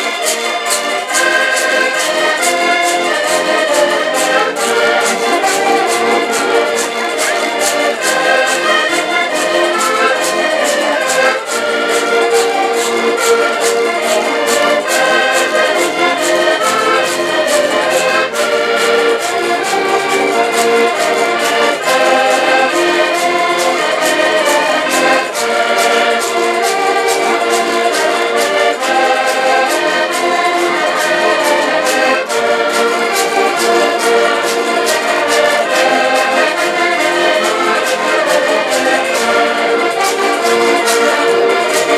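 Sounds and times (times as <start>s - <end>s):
button accordions playing folk tune: 0.0s - 41.9s.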